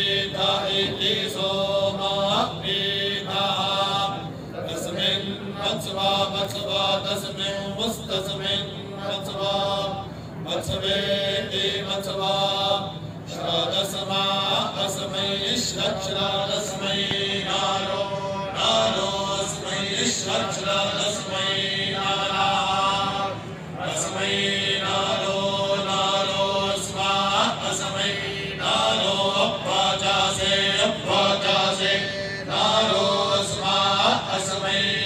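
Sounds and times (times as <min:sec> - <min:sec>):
men chanting together: 0:00.0 - 0:35.0.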